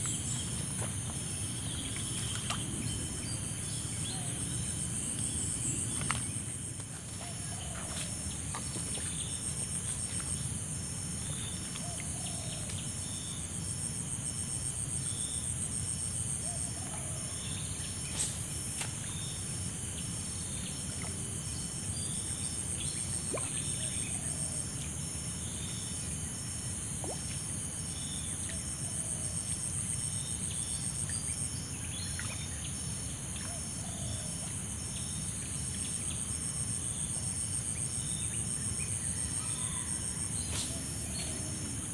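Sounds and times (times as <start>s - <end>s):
short repeated insect calls: 0.0s - 10.5s, 14.8s - 26.1s, 27.0s - 41.9s
insects trilling: 0.0s - 41.9s
rapidly pulsing insect trill: 0.0s - 41.9s.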